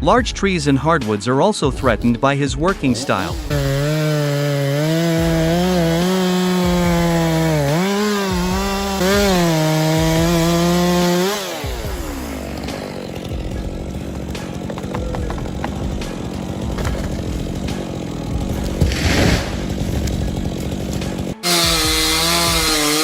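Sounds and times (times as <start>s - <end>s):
chainsaw running: 2.6s - 23.0s.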